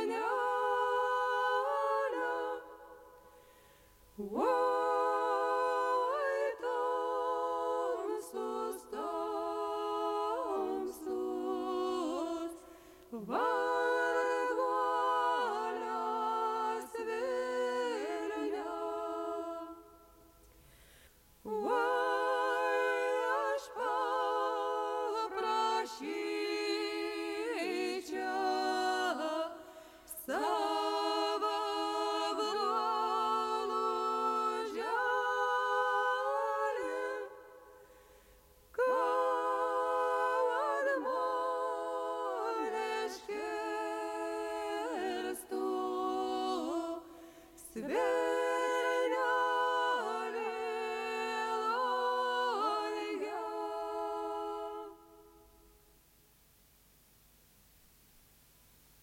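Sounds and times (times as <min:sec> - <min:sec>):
group singing a cappella: 0:00.0 - 0:55.9.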